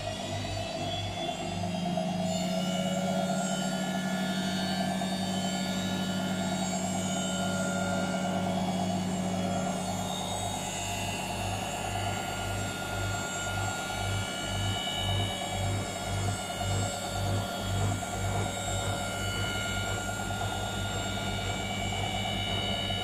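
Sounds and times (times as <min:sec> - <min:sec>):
washing machine motor whine: 0:00.0 - 0:23.0
low pulsing drum hum: 0:01.2 - 0:23.0.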